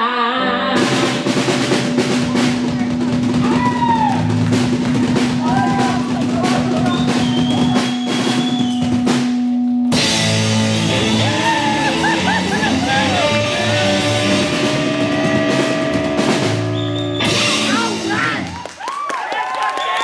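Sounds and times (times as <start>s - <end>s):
rock band playing live: 0.8s - 18.6s.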